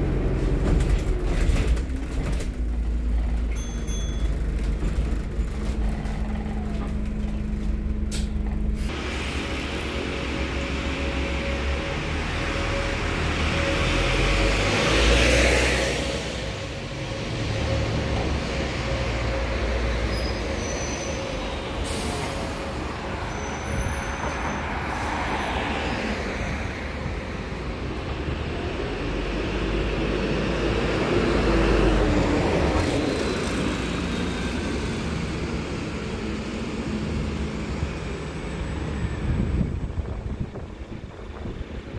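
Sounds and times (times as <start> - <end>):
bus engines running: 0.0 - 41.9
bus pulling away: 0.0 - 41.9
road rumble: 0.0 - 41.9.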